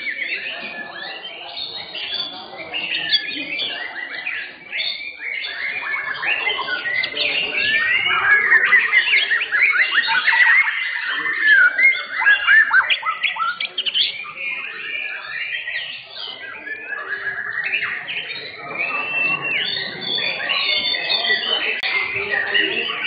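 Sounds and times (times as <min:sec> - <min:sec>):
birds singing whistled phrases: 0:00.0 - 0:23.0.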